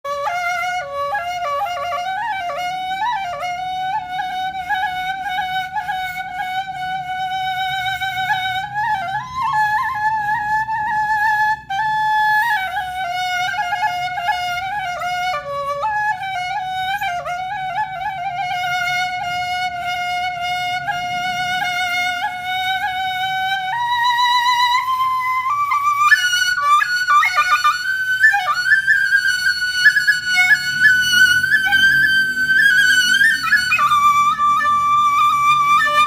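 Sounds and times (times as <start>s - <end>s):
solo flute slow melody: 0.0s - 36.0s.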